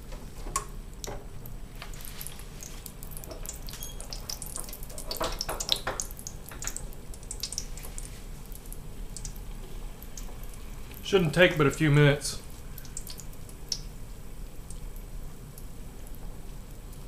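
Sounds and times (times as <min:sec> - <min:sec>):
hot oil sizzling and crackling: 0:00.0 - 0:17.0.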